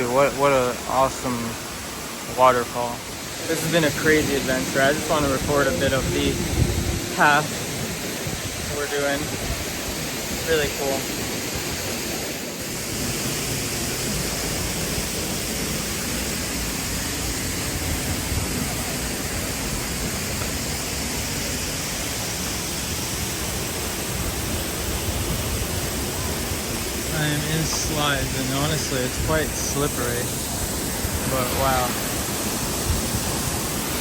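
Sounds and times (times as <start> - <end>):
waterfall roar: 0.0 - 34.0.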